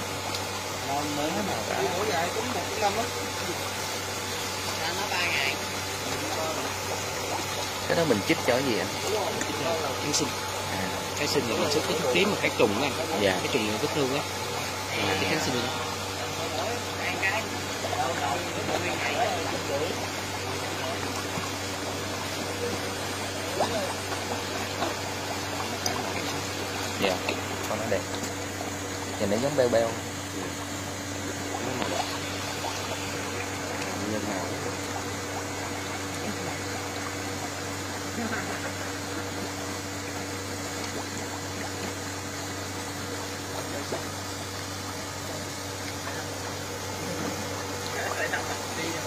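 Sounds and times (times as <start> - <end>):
low hum: 2.3 - 49.0.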